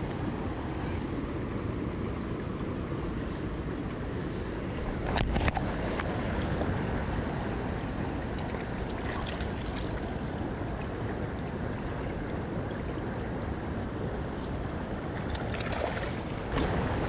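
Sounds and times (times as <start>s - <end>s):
river water over stones: 0.0s - 17.0s.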